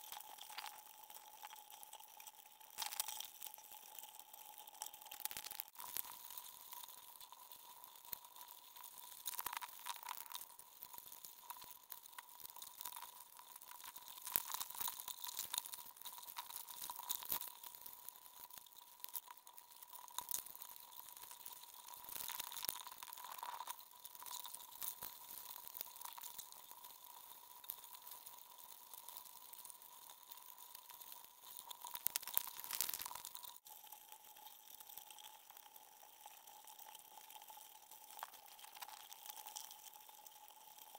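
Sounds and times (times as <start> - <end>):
underwater clicking and crackling: 0.0 - 40.9.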